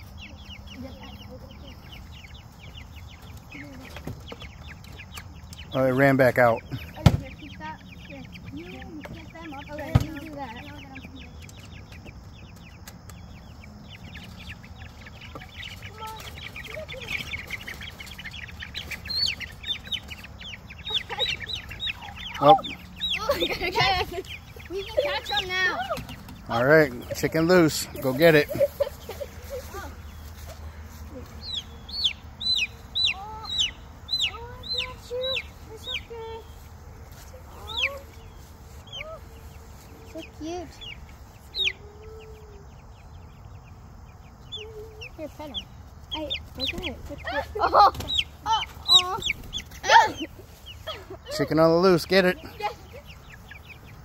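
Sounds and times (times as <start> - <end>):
chicks peeping: 0.0 - 54.0
faint low bird calls: 0.0 - 54.0.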